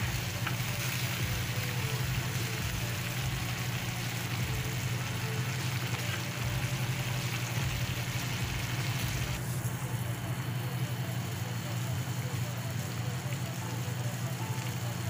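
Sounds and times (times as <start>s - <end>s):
low hum: 0.0s - 15.0s
sauce sizzling and bubbling: 0.0s - 15.0s.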